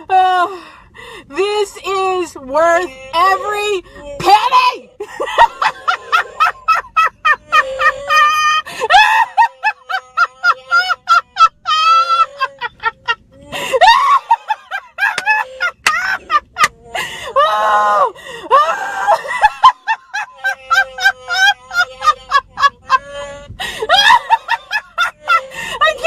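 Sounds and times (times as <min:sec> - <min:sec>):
woman laughing hard: 0:05.0 - 0:26.0.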